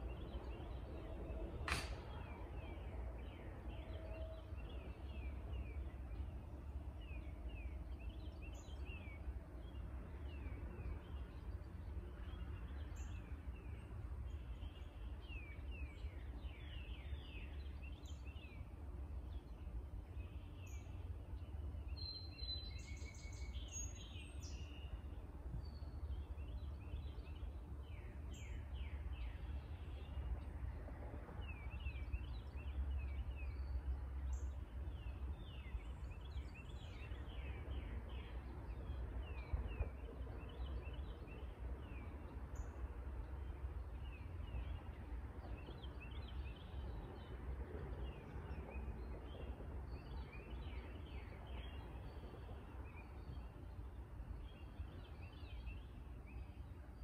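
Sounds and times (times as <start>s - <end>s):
low rumble and hiss: 0.0s - 57.0s.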